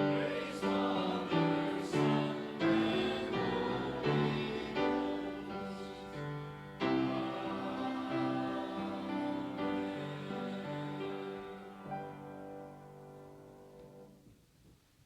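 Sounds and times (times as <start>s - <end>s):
slow piano chords: 0.0s - 14.4s.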